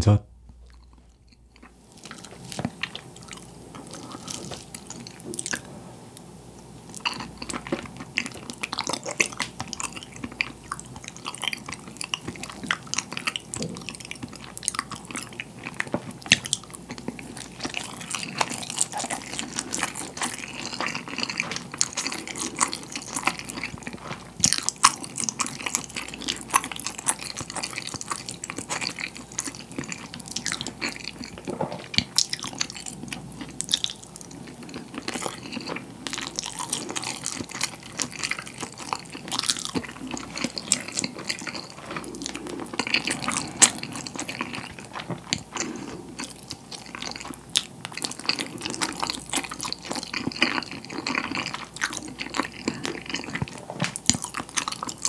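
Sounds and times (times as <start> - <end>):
close chewing mouth sounds: 0.6 - 55.0.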